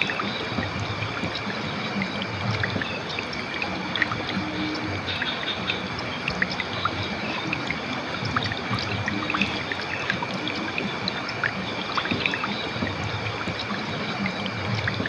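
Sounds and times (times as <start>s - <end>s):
river water rushing over rocks: 0.0s - 15.0s
water bubbling and trickling: 0.0s - 15.0s.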